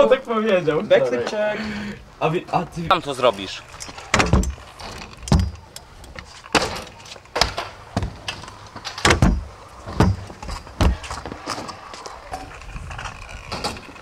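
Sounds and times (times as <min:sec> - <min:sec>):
scooter wheels rolling and grinding: 0:02.3 - 0:14.0.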